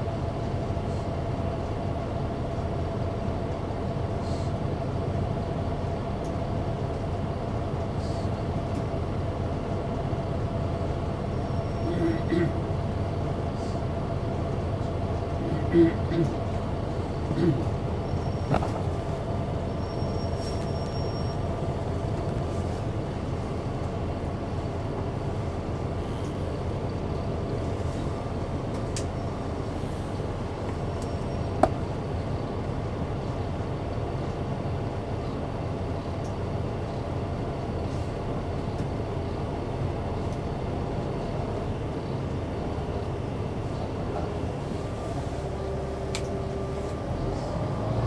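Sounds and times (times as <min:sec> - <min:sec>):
bus engine droning: 0:00.0 - 0:48.0.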